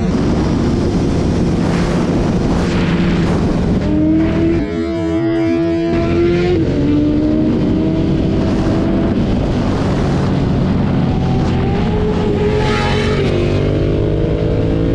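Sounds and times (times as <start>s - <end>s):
wind noise on microphone: 0.0s - 14.9s.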